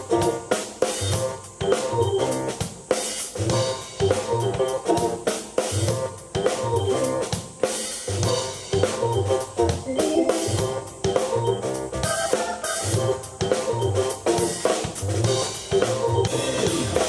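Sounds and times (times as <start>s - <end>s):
drum beat: 0.0s - 17.0s
keyboard chords: 0.0s - 17.0s.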